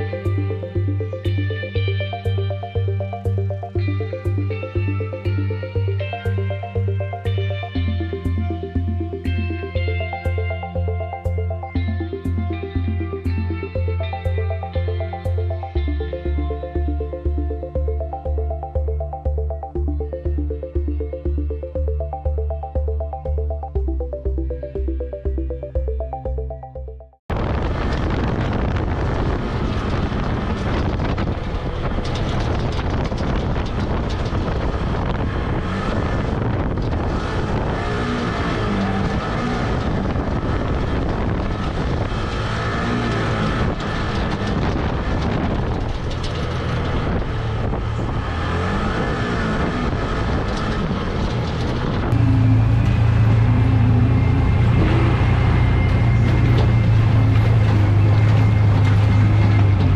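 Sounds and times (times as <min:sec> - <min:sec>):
utility vehicle engine droning: 0:00.0 - 0:59.9.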